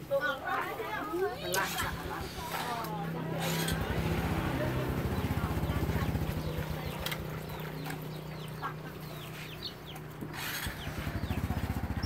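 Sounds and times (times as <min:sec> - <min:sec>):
chickens clucking: 0:01.2 - 0:12.0.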